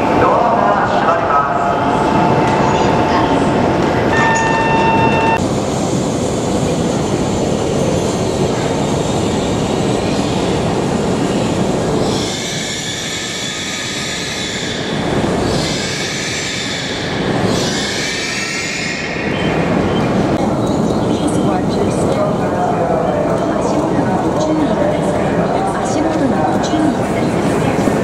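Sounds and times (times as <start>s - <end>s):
train pulling into platform: 0.0s - 28.0s.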